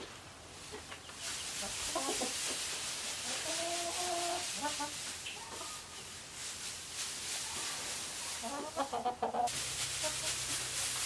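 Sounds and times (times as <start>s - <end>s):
chickens clucking: 0.0s - 11.0s
hay rustling: 0.0s - 11.0s.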